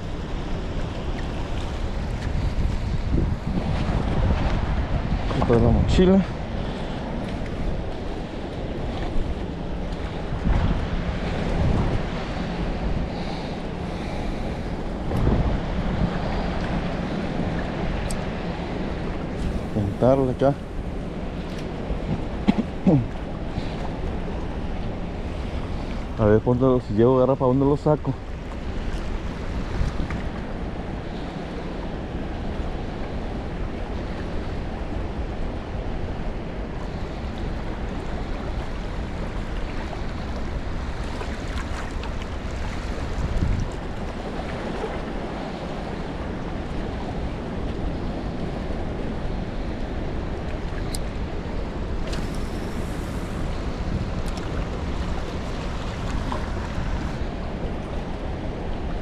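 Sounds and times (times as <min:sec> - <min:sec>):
wind on microphone: 0:00.0 - 0:26.2, 0:28.1 - 0:59.0
rushing water: 0:00.0 - 0:59.0.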